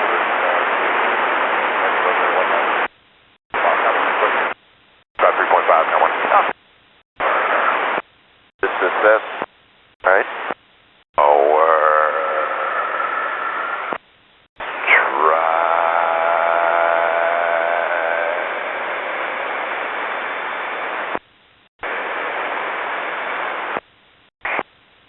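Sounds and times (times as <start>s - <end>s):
radio static hiss with whining tone: 0.0s - 25.0s.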